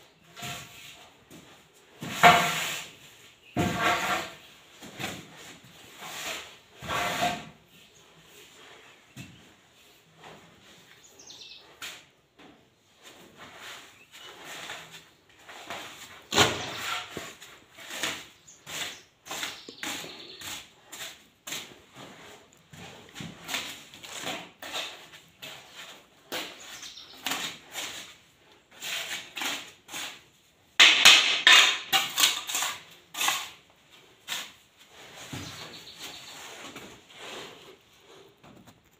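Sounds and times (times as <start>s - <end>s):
scraping on cement floor: 0.0s - 38.9s.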